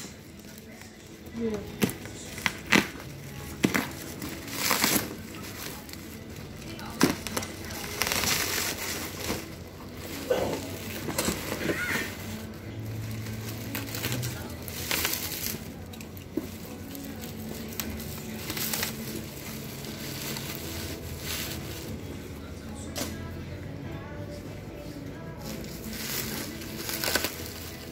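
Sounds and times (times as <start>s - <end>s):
plastic packaging crinkling and tearing: 0.0s - 23.2s, 25.4s - 27.9s.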